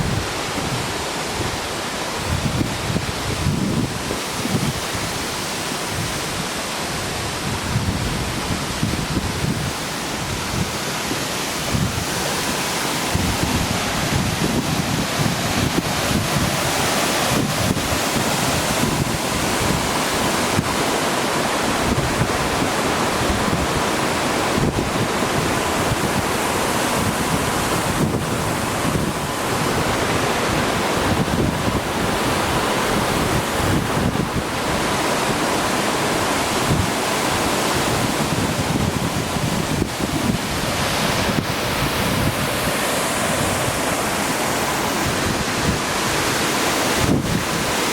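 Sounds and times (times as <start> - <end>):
wind buffeting microphone: 0.0 - 5.2, 5.9 - 47.9
waterfall roaring: 0.0 - 47.9.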